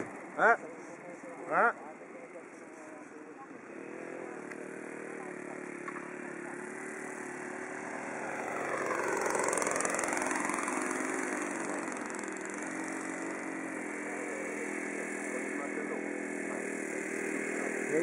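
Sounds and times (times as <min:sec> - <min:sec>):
model plane engine running: 0:00.0 - 0:18.0.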